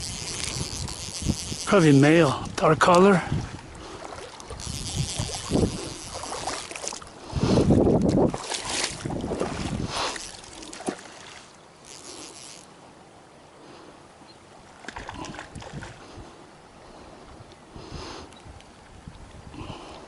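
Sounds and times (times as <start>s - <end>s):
river water running: 0.0s - 20.0s.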